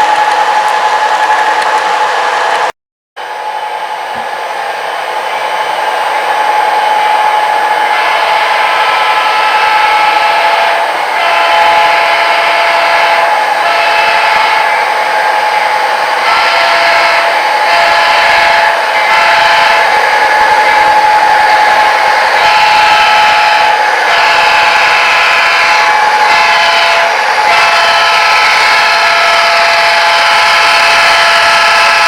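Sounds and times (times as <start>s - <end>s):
model train whine: 0.0s - 32.0s.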